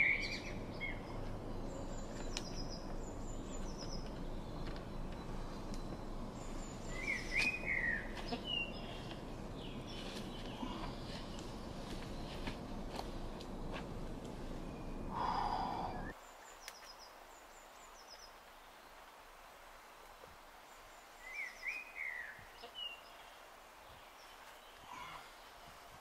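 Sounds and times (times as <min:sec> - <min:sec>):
birds chirping: 0:00.0 - 0:19.1, 0:20.6 - 0:26.0.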